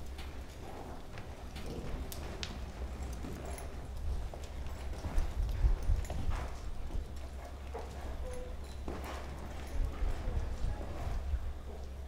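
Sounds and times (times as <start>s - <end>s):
horse hooves in soft dirt: 0.0s - 12.0s.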